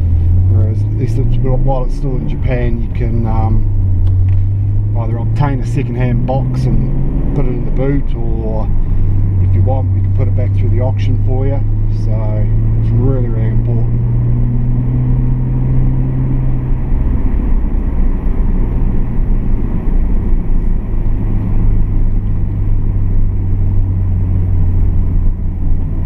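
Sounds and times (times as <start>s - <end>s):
car engine drone from inside: 0.0s - 26.0s
road and tyre noise: 0.0s - 26.0s.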